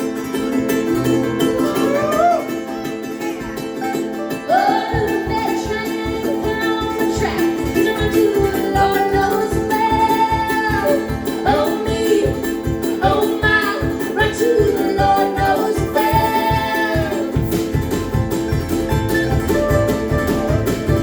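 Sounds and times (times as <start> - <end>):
bluegrass band playing: 0.0 - 21.0.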